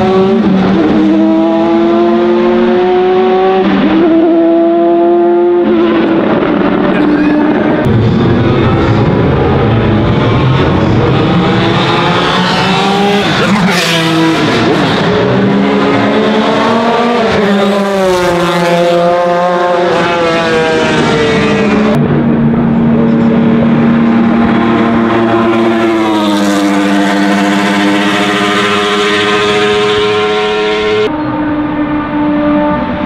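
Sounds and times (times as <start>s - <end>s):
racing car accelerating hard: 0.0s - 33.0s
racing car engine revving: 0.0s - 33.0s.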